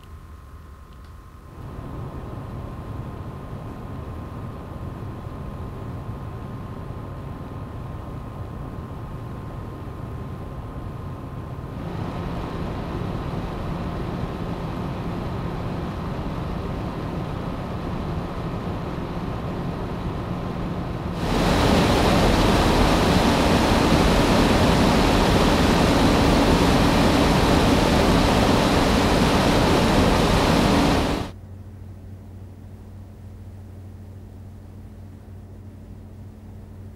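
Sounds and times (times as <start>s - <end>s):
computer cooling fans whooshing: 0.5s - 31.4s.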